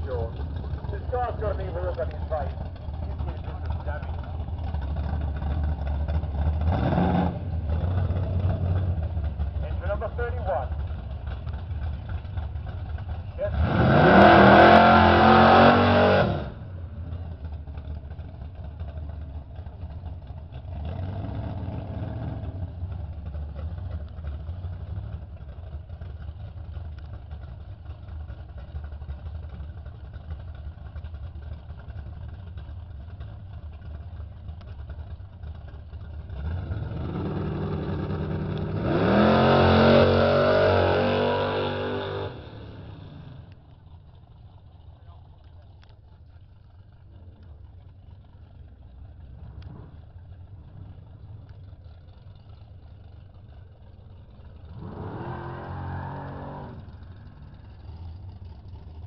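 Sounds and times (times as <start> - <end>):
car engine revving and idling: 0.0 - 59.0.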